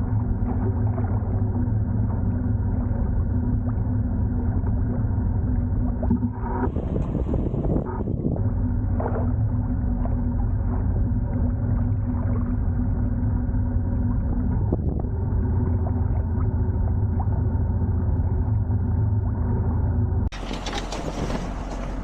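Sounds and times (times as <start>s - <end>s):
boat inboard engine running: 0.0s - 22.0s.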